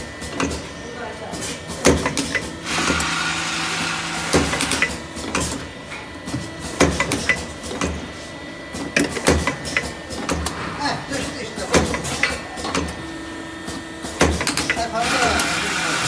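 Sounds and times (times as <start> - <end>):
bottling machine clicks and clatters: 0.3 - 5.7, 6.6 - 8.0, 8.7 - 13.0, 13.6 - 16.0.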